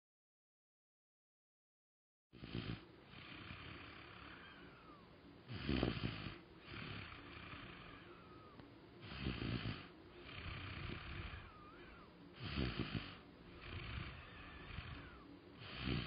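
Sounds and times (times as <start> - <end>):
child snoring: 2.4 - 16.0
noisy breathing: 2.4 - 16.0.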